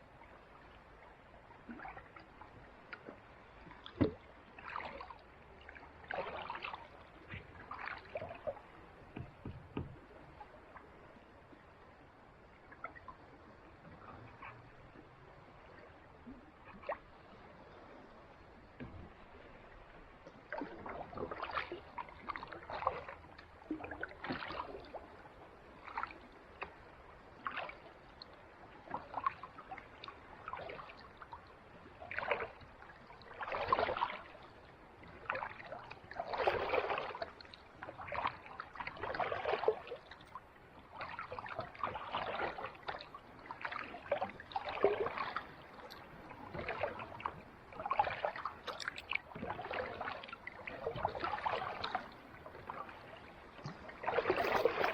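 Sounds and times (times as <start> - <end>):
kayak paddle splashing water: 1.0 - 11.2, 18.6 - 28.2, 28.8 - 54.9.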